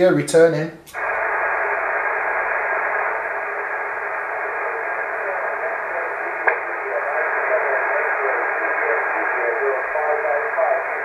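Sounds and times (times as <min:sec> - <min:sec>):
radio click: 0:00.9 - 0:11.0
radio band noise hiss: 0:01.0 - 0:11.0
weak voice over radio: 0:01.0 - 0:11.0.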